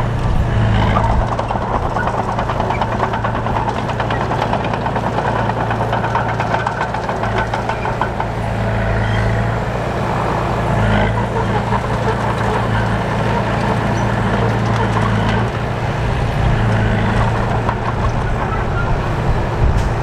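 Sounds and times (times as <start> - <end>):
diesel engine running with clatter: 0.0 - 20.0.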